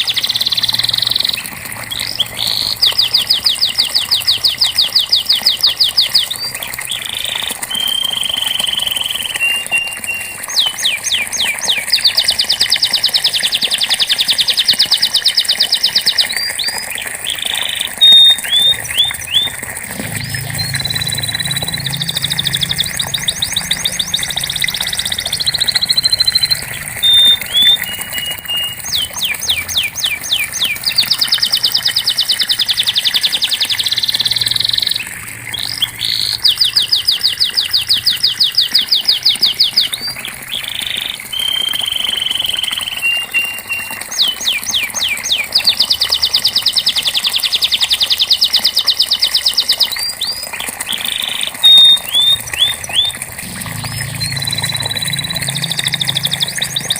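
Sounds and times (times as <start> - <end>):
canary singing: 0.0 - 50.4, 51.0 - 56.9.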